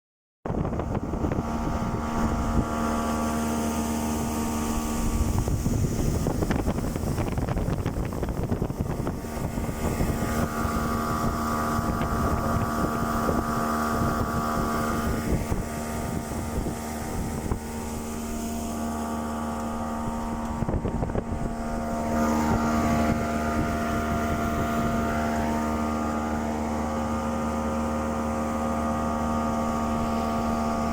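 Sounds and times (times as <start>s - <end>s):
outboard motor droning: 0.5s - 30.9s.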